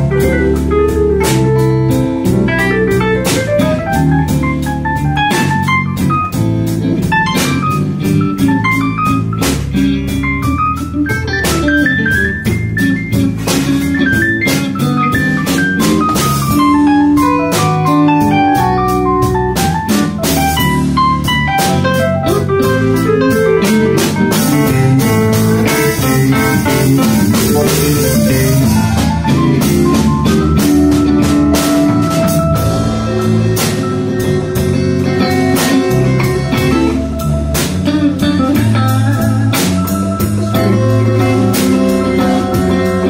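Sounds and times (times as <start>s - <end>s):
drum kit beat: 0.0s - 43.0s
electric guitar: 0.0s - 43.0s
keyboard: 0.0s - 43.0s.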